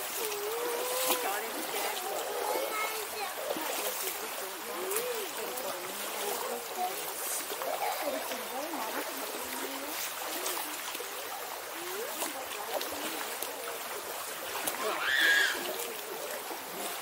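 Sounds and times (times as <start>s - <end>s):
faint voices talking: 0.0s - 17.0s
stream water rushing: 0.0s - 17.0s.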